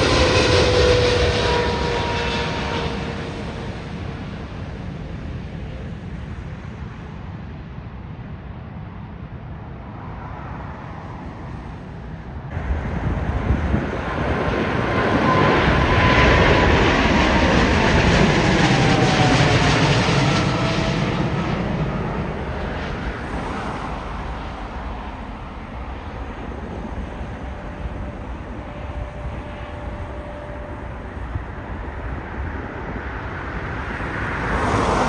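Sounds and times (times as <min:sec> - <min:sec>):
jet engine whine falling: 0:00.0 - 0:07.6, 0:09.7 - 0:35.0
jet airliner passing: 0:00.0 - 0:35.0.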